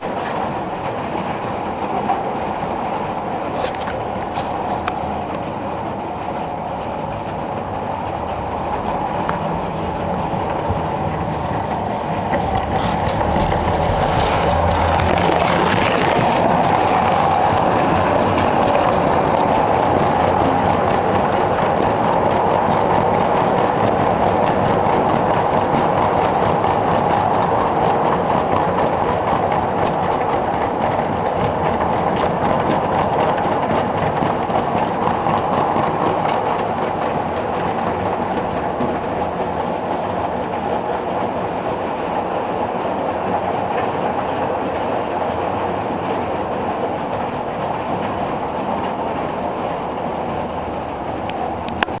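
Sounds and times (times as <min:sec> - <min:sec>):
clicking over rail joints: 0:00.0 - 0:52.0.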